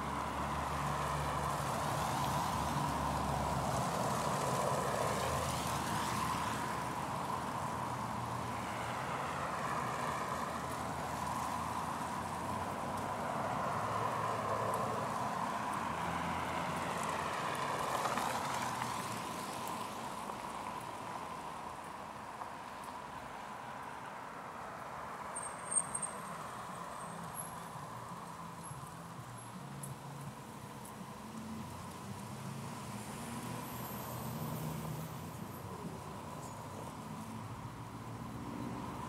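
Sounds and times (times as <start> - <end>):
car tyres passing on snow: 0.0 - 23.4, 25.0 - 35.6.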